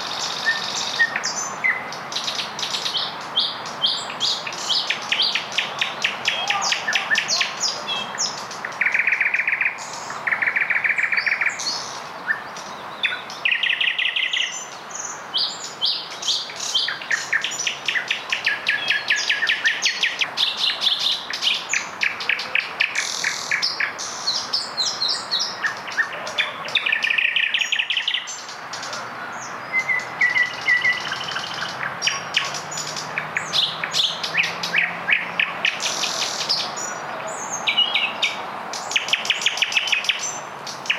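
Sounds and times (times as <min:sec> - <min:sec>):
nightingales singing: 0:00.0 - 0:40.9.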